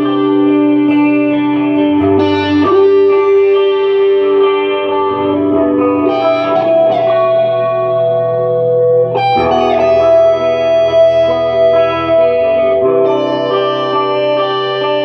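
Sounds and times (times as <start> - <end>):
guitar with ringing notes: 0.0 - 15.0.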